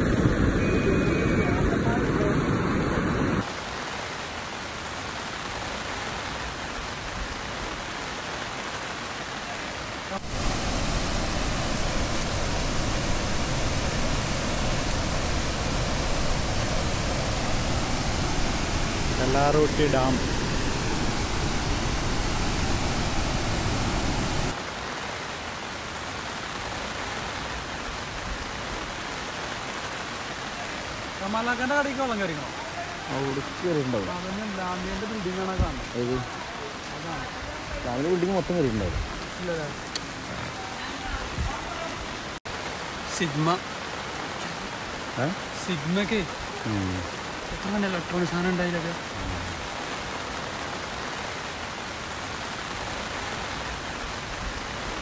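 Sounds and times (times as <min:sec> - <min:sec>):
floodwater rushing: 0:03.4 - 0:55.0
rain on a flooded street: 0:03.4 - 0:55.0
fast-flowing river hiss: 0:07.7 - 0:55.0.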